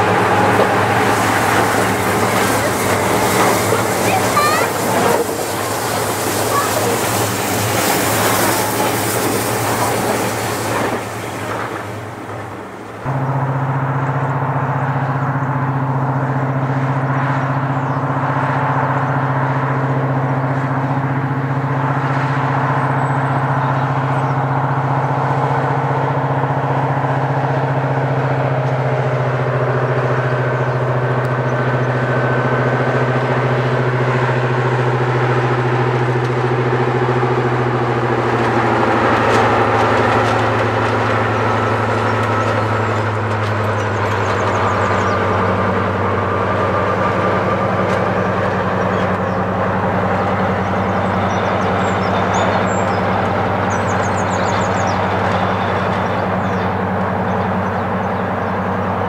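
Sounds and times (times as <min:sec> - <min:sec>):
large diesel engine running: 0:00.0 - 0:59.0.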